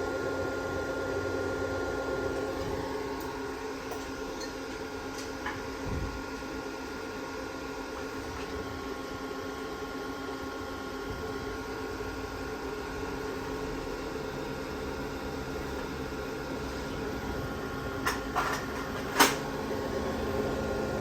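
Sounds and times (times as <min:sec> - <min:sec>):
electrical hum: 0:00.0 - 0:21.0
whining tones from drive and motor: 0:00.0 - 0:21.0.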